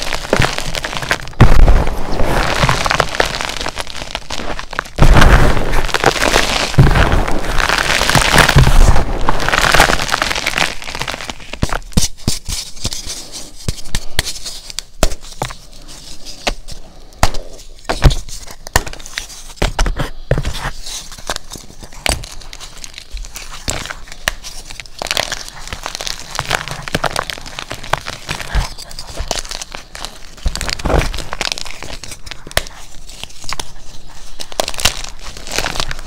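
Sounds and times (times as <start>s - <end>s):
chalk block crunching by hand: 0.0s - 15.6s, 17.2s - 36.0s.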